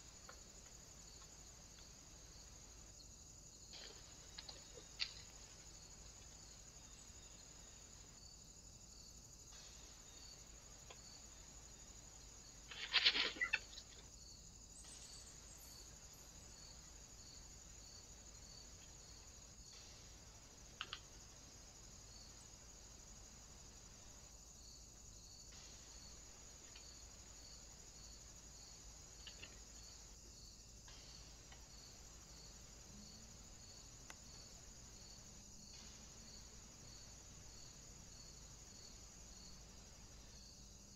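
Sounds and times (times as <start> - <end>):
insects chirping: 0.0 - 40.9
steady hiss: 0.0 - 40.9.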